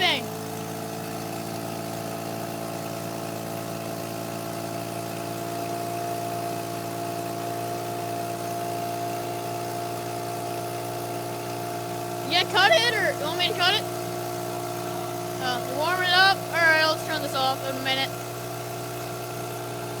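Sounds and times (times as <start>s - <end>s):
rotary engine idling: 0.0s - 20.0s.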